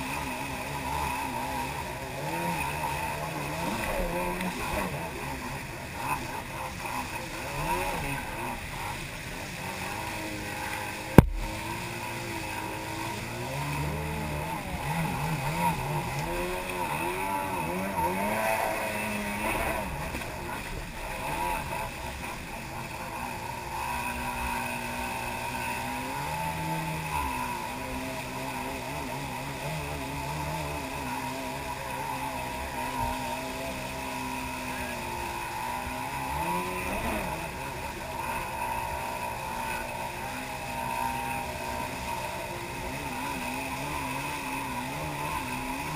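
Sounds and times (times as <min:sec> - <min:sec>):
jet ski engine revving: 0:00.0 - 0:45.9
rushing water: 0:00.0 - 0:45.9.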